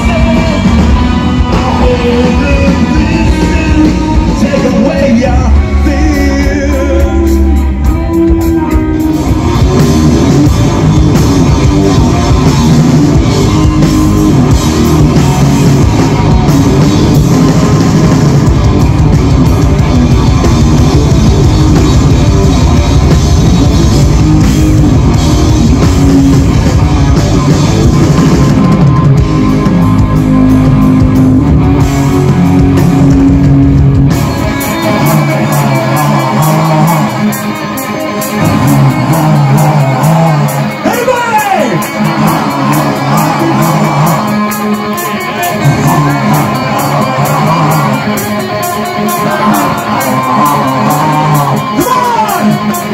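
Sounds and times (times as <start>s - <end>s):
bass guitar: 0.0s - 52.9s
drum kit: 0.0s - 52.9s
electric guitars: 0.0s - 52.9s.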